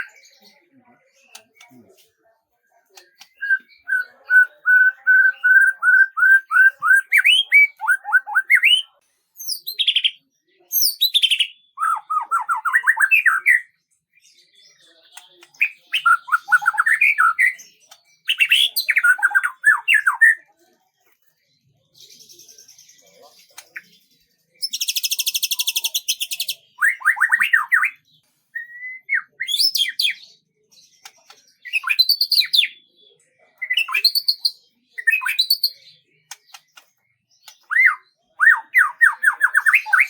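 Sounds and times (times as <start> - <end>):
songbird singing: 0.0 - 40.0.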